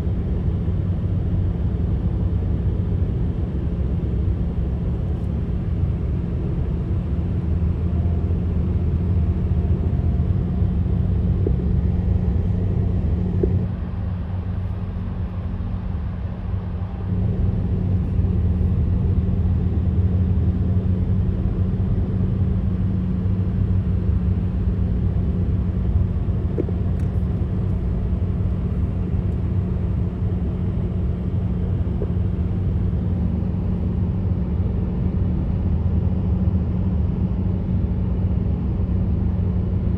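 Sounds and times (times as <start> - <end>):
constant hum: 0.0 - 39.9
vehicle engines and road noise: 0.0 - 39.9.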